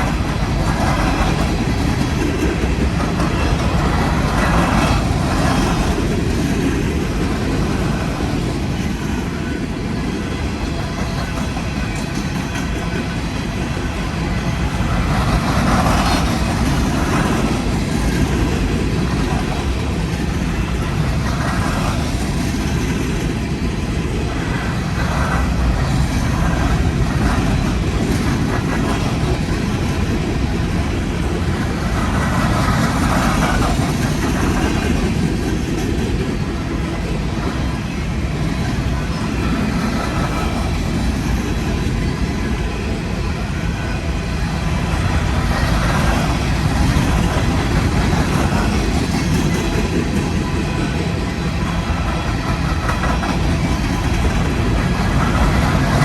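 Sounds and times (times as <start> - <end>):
freight train wheels rumbling: 0.0 - 56.0
train clatter: 0.0 - 56.0.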